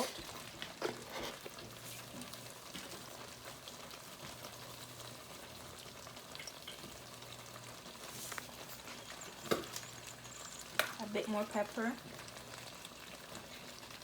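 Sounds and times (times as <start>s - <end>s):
sauce sizzling in a pan: 0.0s - 14.0s.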